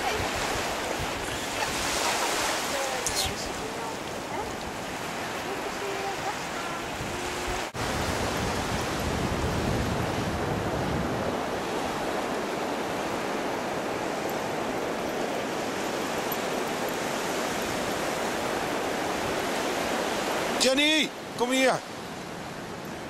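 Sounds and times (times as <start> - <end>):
small waves breaking: 0.0 - 23.0.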